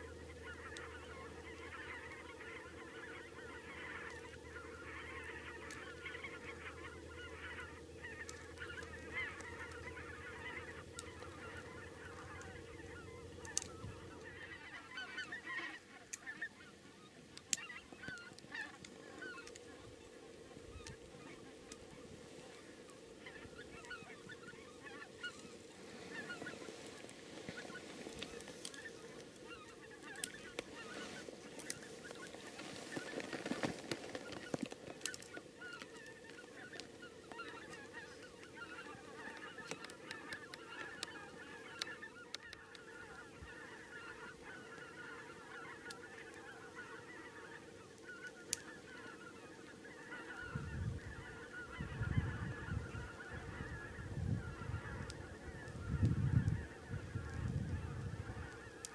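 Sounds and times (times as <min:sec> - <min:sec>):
geese honking: 0:00.0 - 0:58.9.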